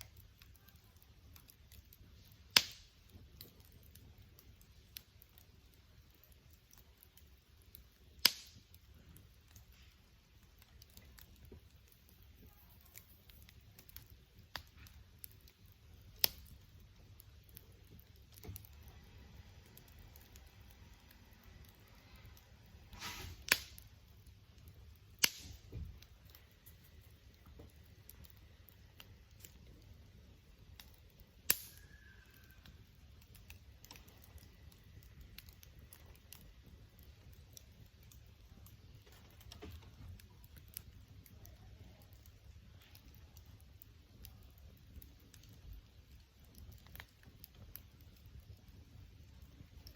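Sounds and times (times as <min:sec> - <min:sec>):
sharp fire pops: 0:00.0 - 0:49.9
wood fire crackling: 0:00.0 - 0:49.9.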